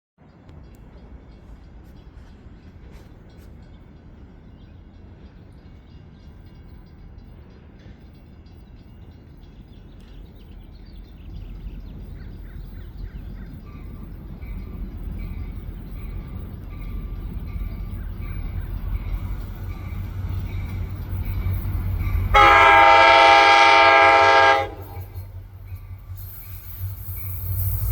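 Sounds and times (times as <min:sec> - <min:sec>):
diesel locomotive rumble: 0:00.3 - 0:27.9.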